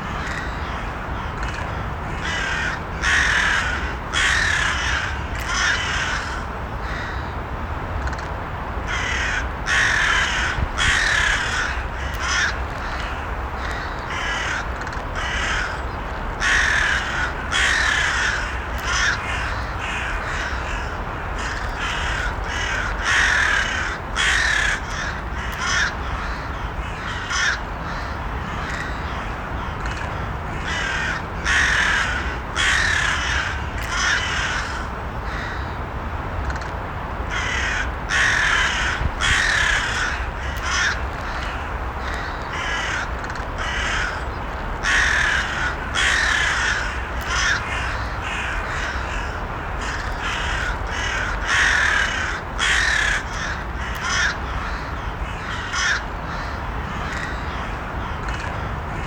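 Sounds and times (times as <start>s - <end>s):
crows cawing: 0.0s - 7.4s, 8.9s - 35.8s, 37.3s - 59.0s.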